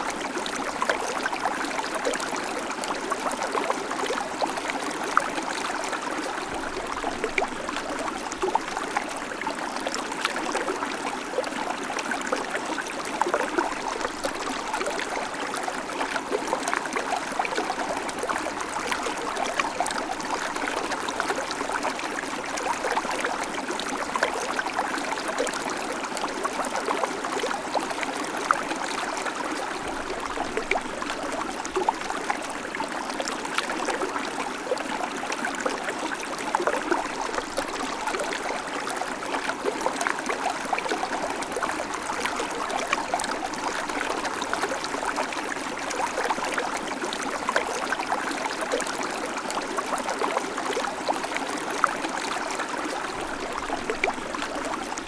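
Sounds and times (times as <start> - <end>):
babbling creek: 0.0 - 55.0.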